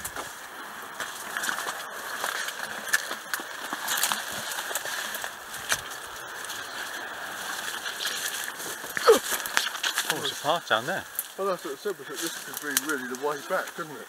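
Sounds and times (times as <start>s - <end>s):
twigs rustling and crackling: 0.0s - 14.0s.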